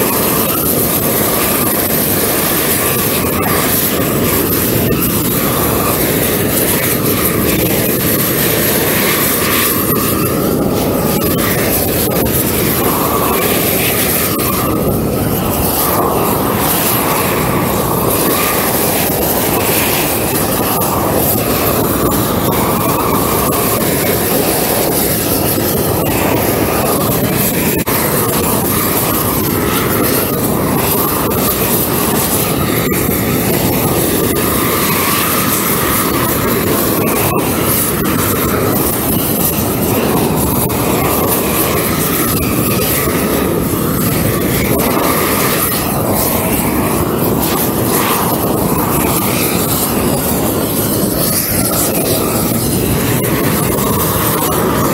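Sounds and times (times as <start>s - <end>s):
propane torch running: 0.0s - 54.9s.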